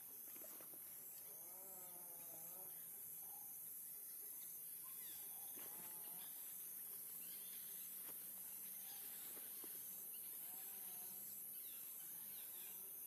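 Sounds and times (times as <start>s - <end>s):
high insect hiss: 0.0s - 13.0s.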